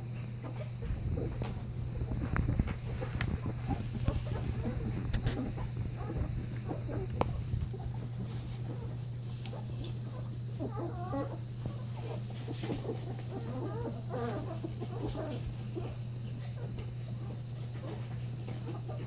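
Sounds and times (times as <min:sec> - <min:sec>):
steady low hum: 0:00.0 - 0:19.0
puppy squeaking and whimpering: 0:02.0 - 0:18.0.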